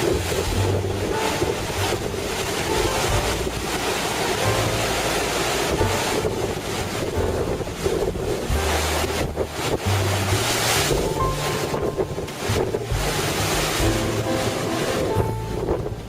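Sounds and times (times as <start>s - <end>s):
surf crashing on rocky shore: 0.0s - 16.0s
wind buffeting microphone: 0.0s - 16.0s.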